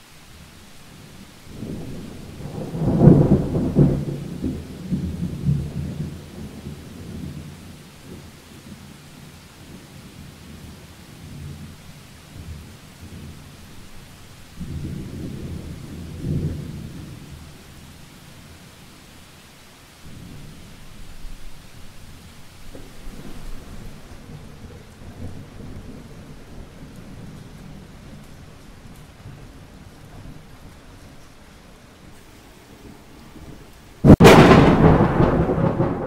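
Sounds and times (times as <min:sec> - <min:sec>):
steady rain: 0:00.0 - 0:36.0
thunder rumbling: 0:00.8 - 0:17.8, 0:20.1 - 0:36.0.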